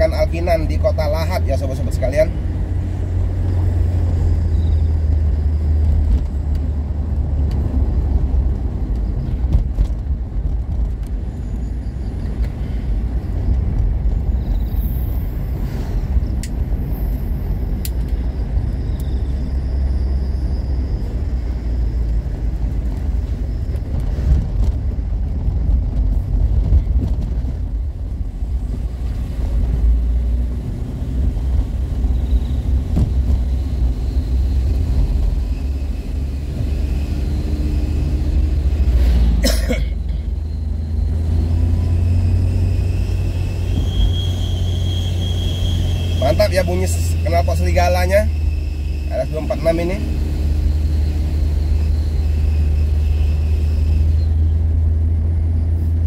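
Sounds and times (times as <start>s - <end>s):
highway traffic rumble: 0.0s - 56.0s.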